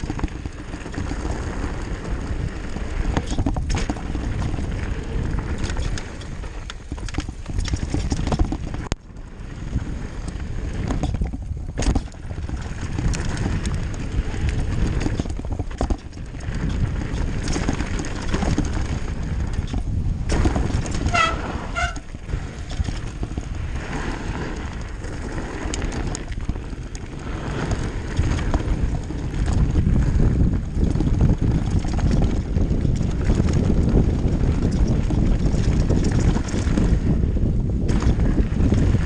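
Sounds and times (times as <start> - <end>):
bike rattling over bumps: 0.0 - 39.0
tyres on loose ground: 0.0 - 39.0
wind rushing over microphone: 0.0 - 39.0.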